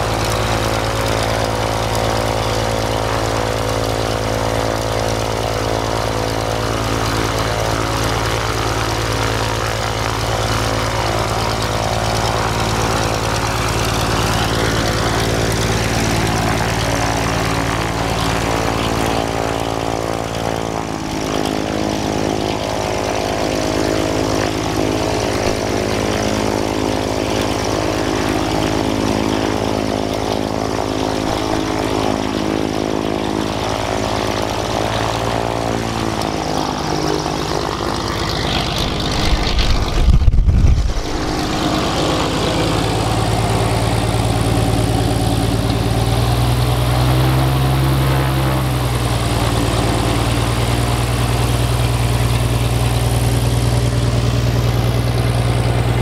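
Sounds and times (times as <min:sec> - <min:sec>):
propeller blast buffeting: 0:00.0 - 0:56.0
propeller plane engine running: 0:00.0 - 0:56.0.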